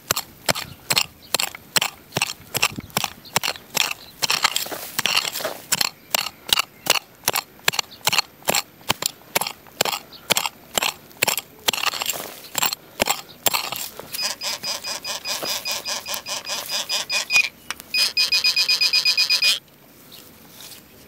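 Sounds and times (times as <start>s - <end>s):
digging tool chopping soil: 0.0s - 17.4s.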